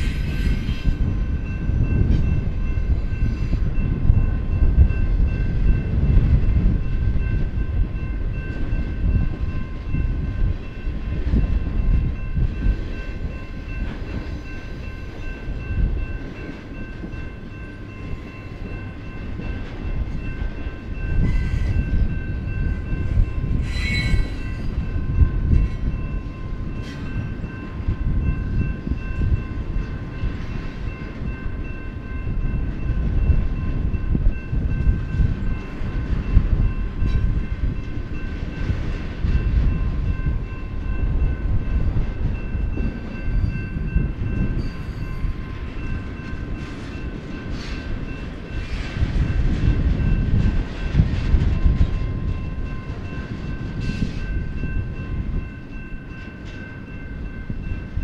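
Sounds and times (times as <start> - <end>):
crossing warning bell ringing: 0.0 - 58.0
train wheels rumbling on rail: 0.0 - 58.0.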